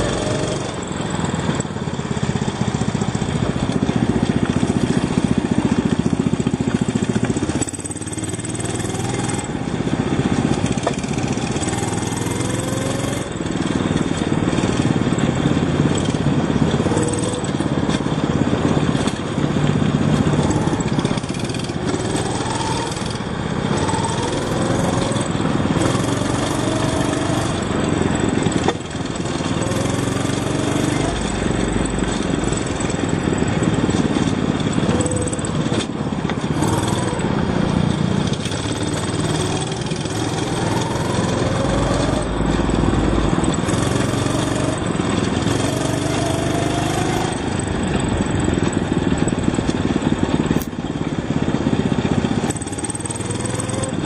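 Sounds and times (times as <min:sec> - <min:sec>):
go-kart engines revving: 0:00.0 - 0:54.0.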